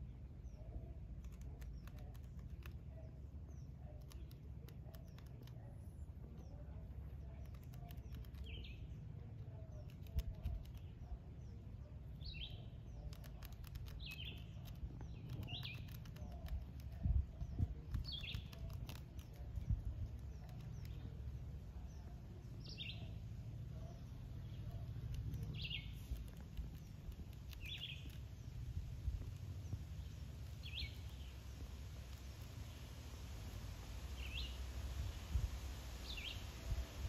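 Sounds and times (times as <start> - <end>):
bird chirping: 0.0 - 32.9, 34.0 - 35.3, 35.9 - 36.9
low steady rumble: 0.0 - 37.0.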